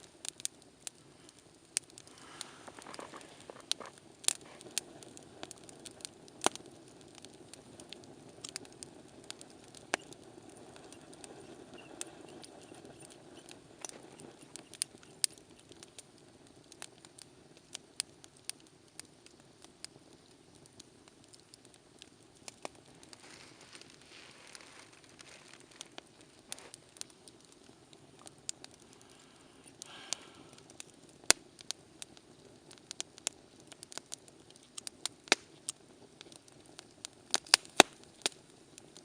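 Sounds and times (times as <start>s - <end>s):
wood campfire crackling: 0.0s - 39.0s.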